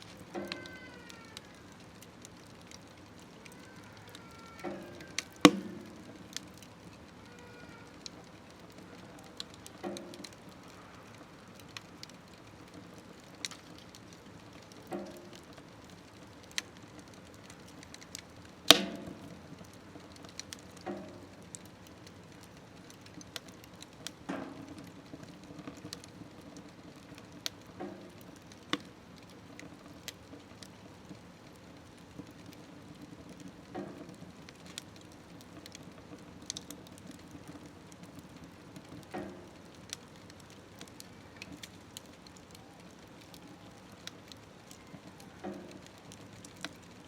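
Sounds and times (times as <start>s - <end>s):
wood fire crackling in a stove: 0.0s - 47.0s.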